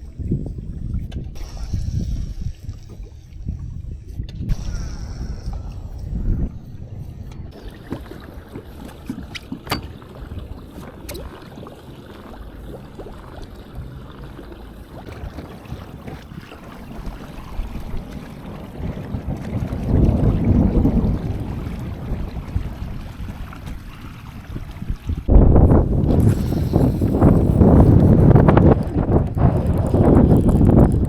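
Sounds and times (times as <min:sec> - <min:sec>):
low rumbling: 0:00.0 - 0:31.0
water noise: 0:00.0 - 0:31.0
wind noise: 0:00.0 - 0:31.0.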